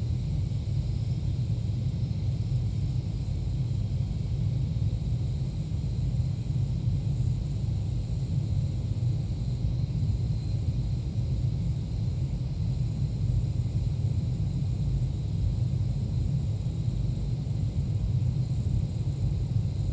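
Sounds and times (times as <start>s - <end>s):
steady noisy rumble: 0.0s - 19.9s.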